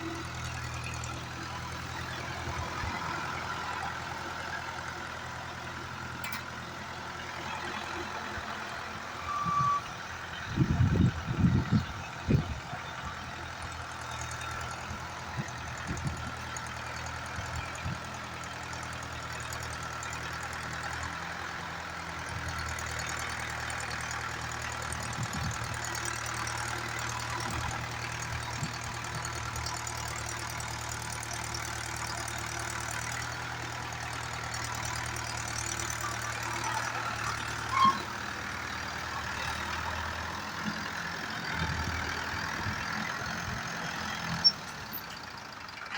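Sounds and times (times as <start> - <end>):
tractor diesel engine idling: 0.0 - 45.9.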